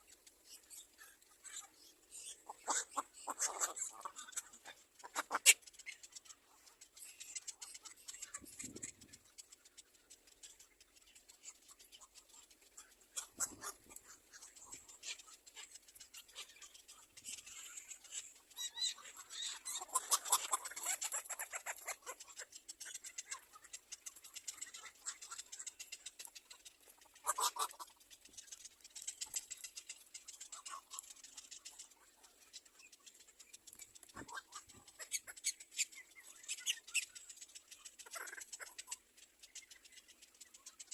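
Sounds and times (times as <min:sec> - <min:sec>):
scratching and rustling in nest: 0:00.0 - 0:40.9
nestlings chirping: 0:00.1 - 0:40.9.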